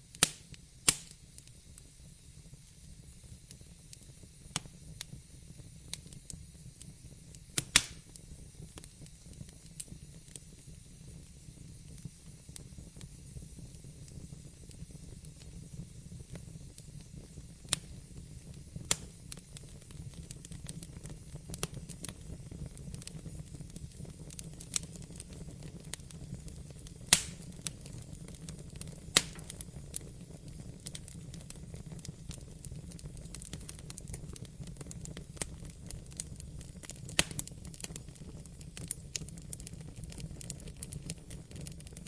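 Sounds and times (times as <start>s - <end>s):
fireplace fire crackling: 0.0s - 42.0s
loud fire pops: 0.0s - 42.0s.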